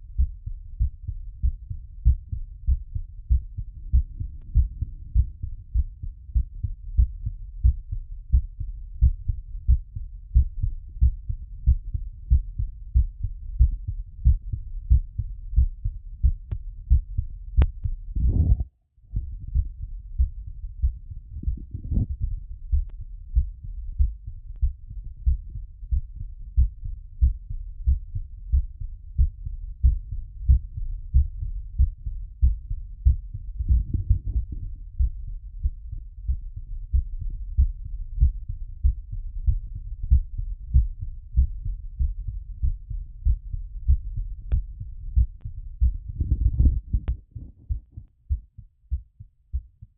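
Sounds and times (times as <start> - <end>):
heartbeat through stethoscope: 0.0 - 49.9.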